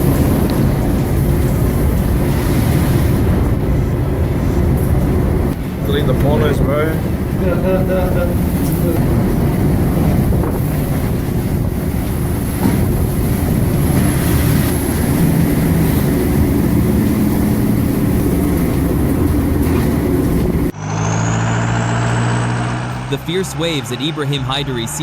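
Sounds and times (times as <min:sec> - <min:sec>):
wind buffeting microphone: 0:00.0 - 0:20.8
low engine hum: 0:00.0 - 0:25.0.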